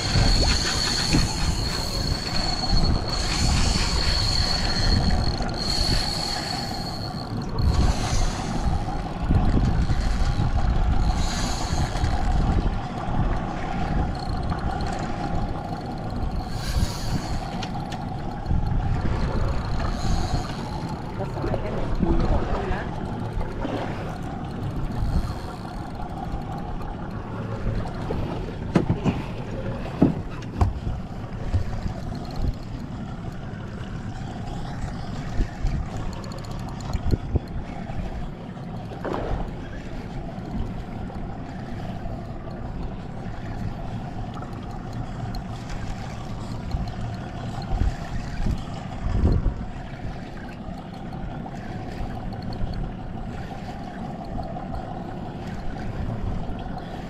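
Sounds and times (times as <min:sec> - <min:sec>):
boat motor humming: 0:00.0 - 0:57.0
water noise: 0:00.0 - 0:57.0
wind: 0:00.0 - 0:57.0.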